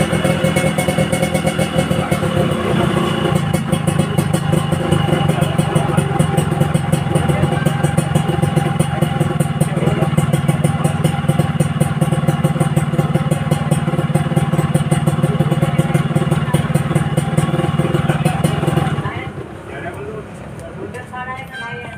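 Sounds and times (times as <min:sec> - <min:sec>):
engine running with rapid pulsing: 0:00.0 - 0:19.3.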